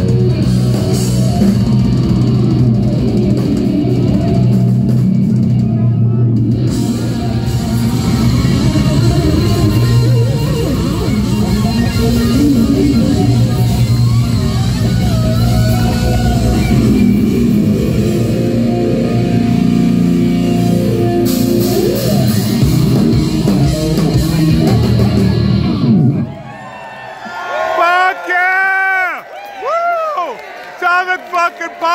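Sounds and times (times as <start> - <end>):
bass guitar: 0.0 - 26.4
electric guitar: 0.0 - 26.5
drums: 0.0 - 26.9.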